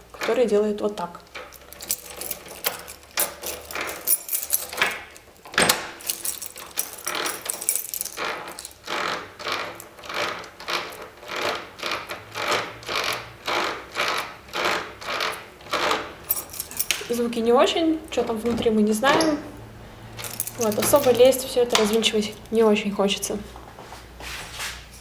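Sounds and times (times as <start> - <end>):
door lock squeaking and grating: 1.3 - 22.4.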